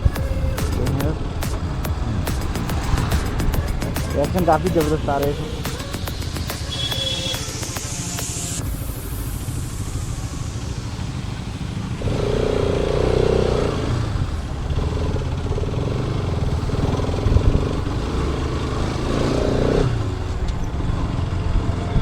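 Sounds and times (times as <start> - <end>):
city traffic: 0.0 - 22.0
motorcycle engine running: 0.0 - 22.0.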